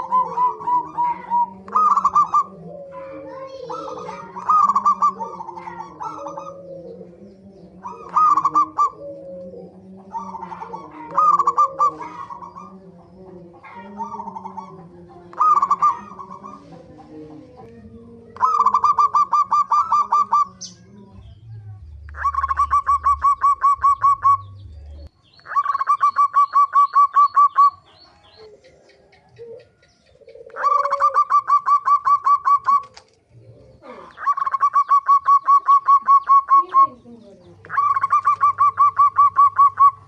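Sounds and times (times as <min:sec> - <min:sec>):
doves cooing in pulsed notes: 0:00.0 - 0:40.0.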